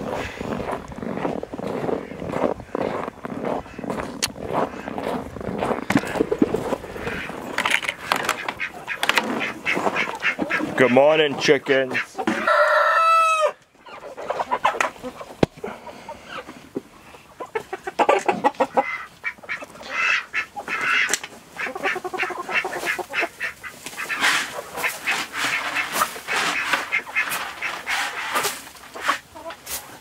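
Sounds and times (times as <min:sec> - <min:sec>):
chickens clucking: 0:00.0 - 0:30.0
ducks quacking: 0:00.0 - 0:30.0.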